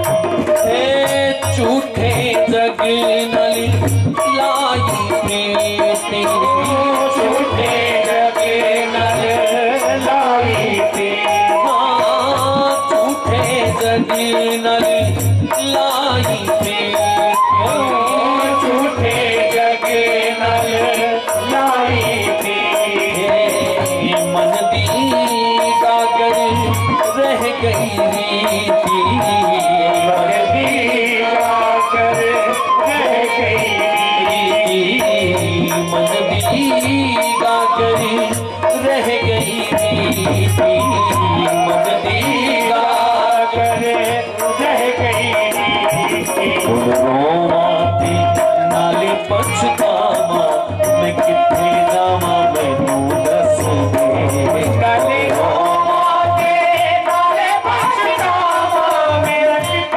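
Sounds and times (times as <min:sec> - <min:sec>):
jingling percussion: 0:00.0 - 0:59.9
man singing: 0:00.0 - 0:59.9.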